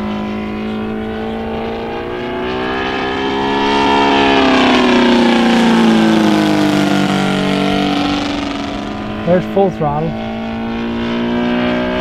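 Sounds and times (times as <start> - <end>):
model plane engine flying past: 0.0 - 12.0.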